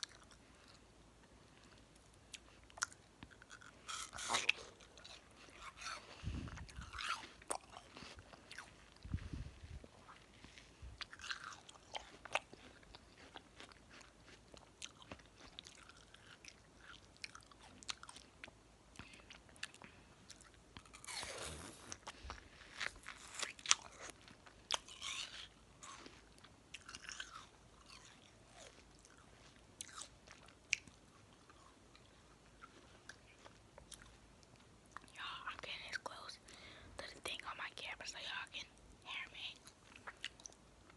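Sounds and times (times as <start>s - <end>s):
person chewing watermelon: 0.0s - 35.1s, 39.6s - 40.9s.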